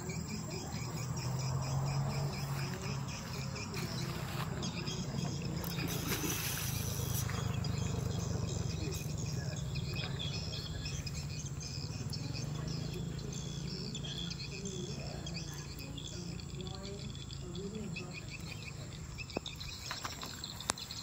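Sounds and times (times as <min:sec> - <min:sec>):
birds chirping: 0:00.0 - 0:21.0
insects calling: 0:00.0 - 0:21.0.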